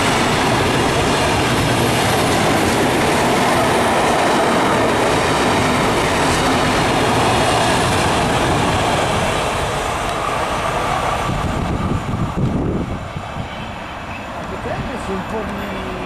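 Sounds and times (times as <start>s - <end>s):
train wagons rolling on rails: 0.0s - 16.0s.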